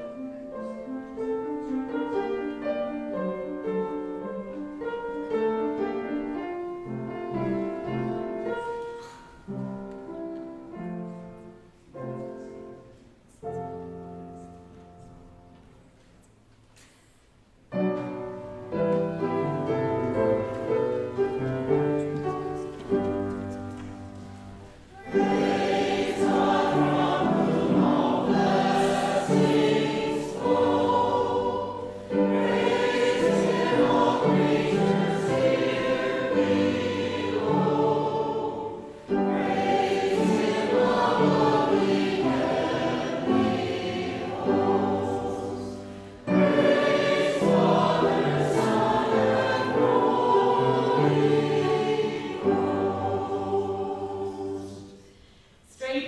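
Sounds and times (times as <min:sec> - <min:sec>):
church choir singing: 0:00.0 - 0:15.9, 0:17.8 - 0:55.6.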